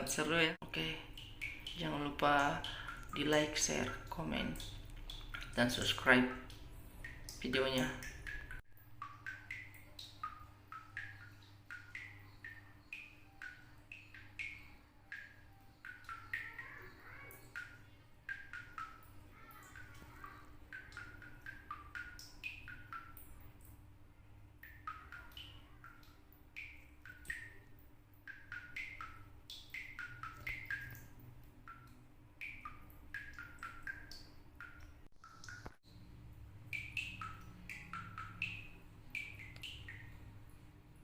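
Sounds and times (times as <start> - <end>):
faint steady hum: 0.0 - 41.0
water dripping from a tap: 0.0 - 41.0.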